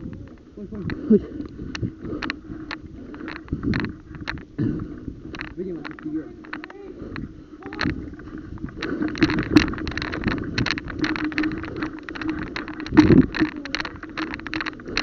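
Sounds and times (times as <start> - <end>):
rapid clicking and rustling: 0.0 - 15.0
steady low hum: 0.0 - 15.0.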